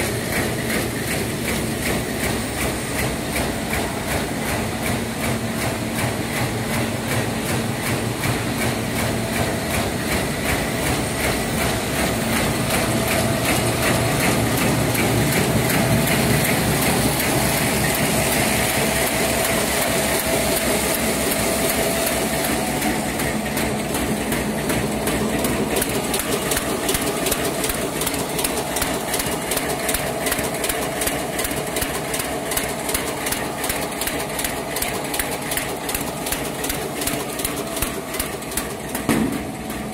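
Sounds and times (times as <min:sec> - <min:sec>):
continuous machine hum: 0:00.0 - 0:39.9
rapid mechanical clicking: 0:00.0 - 0:39.9.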